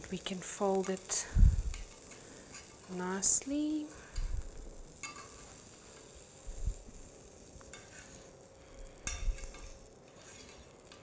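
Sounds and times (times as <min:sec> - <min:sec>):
faint sizzle from hot pan: 0:00.0 - 0:11.0
metal utensil scraping in skillet: 0:00.2 - 0:11.0.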